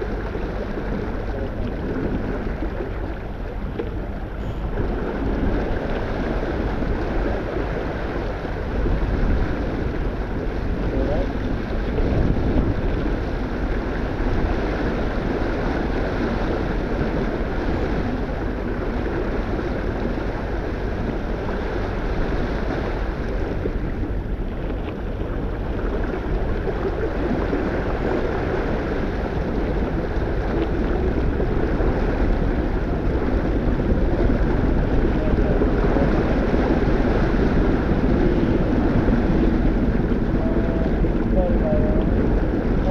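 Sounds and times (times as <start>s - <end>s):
water rushing along hull: 0.0s - 42.9s
wind buffeting microphone: 0.0s - 42.9s.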